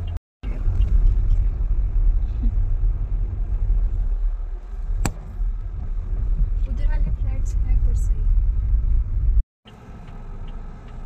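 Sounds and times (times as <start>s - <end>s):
car interior road and engine rumble: 0.0s - 11.0s.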